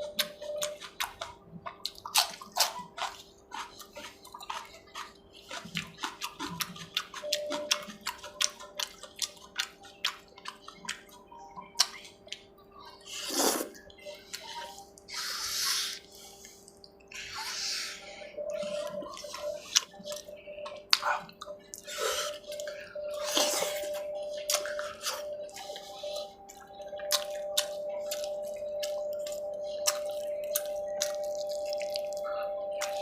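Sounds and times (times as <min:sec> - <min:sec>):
faint steady tones: 0:00.0 - 0:33.0
wet chewing and lip-smacking: 0:00.0 - 0:33.0.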